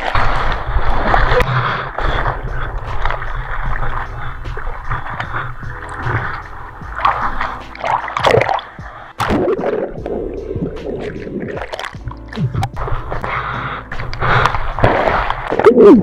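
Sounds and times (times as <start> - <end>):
whitewater rushing and splashing: 0.0 - 13.3
muffled underwater gurgling: 0.0 - 16.0.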